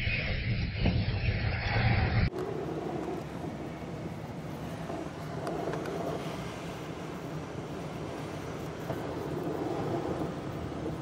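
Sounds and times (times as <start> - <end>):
air rushing past glider: 0.0 - 11.0.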